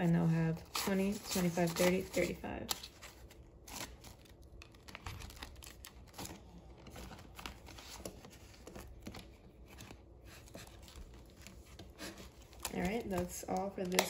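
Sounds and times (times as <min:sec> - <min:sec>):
paper banknotes rustling: 0:00.0 - 0:14.0
plastic envelope crinkling: 0:00.0 - 0:14.0.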